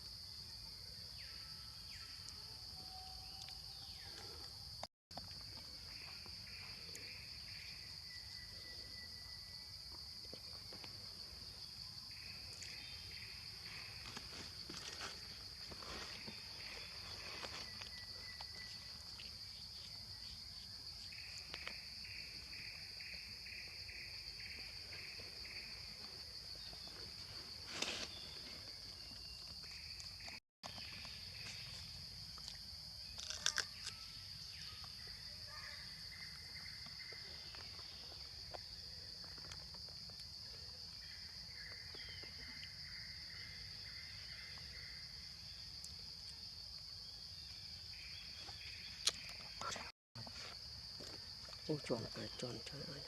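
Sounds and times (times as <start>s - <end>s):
pulsing insect call: 0.0s - 53.0s.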